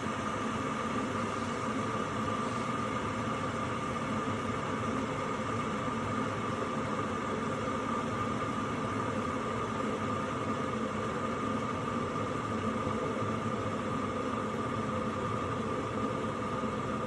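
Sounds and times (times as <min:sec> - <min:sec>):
electric kettle heating water: 0:00.0 - 0:17.0.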